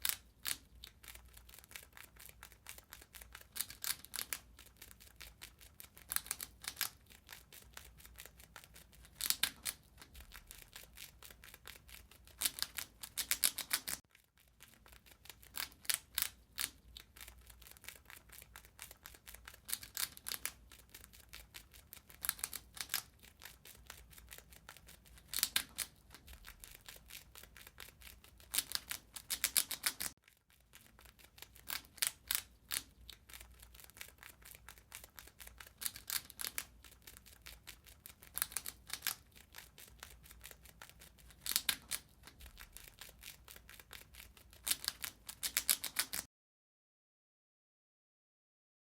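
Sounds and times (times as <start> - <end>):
rat gnawing and chewing: 0.0 - 46.3.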